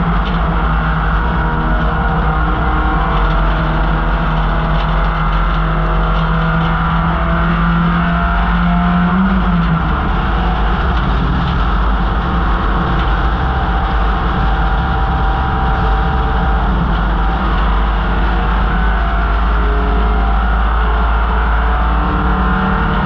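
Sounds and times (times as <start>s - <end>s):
car engine revving hard: 0.0s - 23.0s
wind and road noise: 0.0s - 23.0s.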